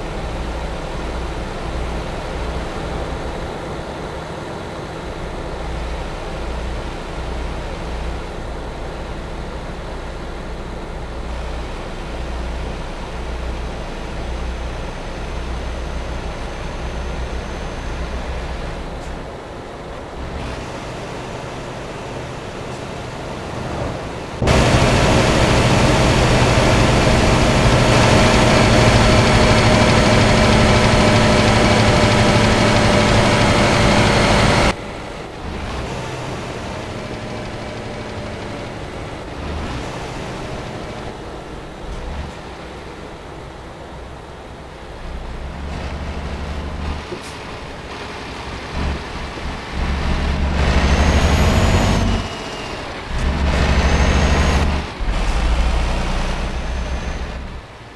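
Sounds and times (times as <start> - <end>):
heavy truck engine: 0.0 - 57.9
road noise: 0.0 - 57.9.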